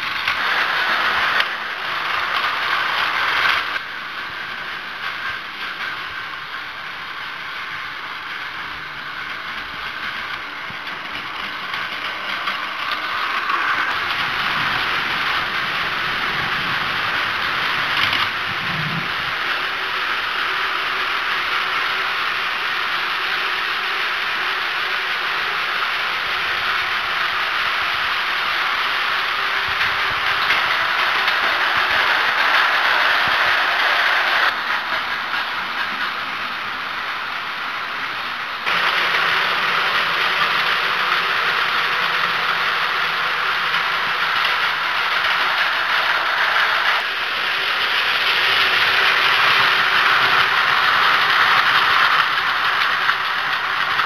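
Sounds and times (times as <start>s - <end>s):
toy train motor whirring: 0.0s - 54.0s.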